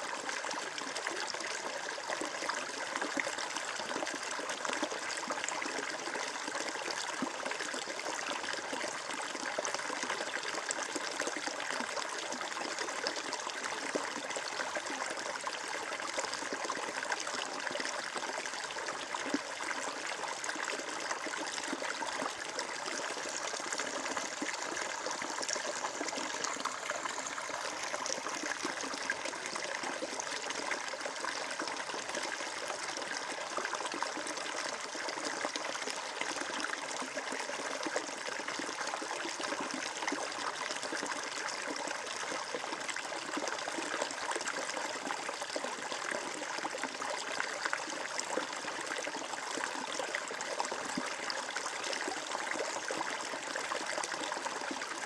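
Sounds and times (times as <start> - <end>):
stream water babbling over stones: 0.0 - 55.0.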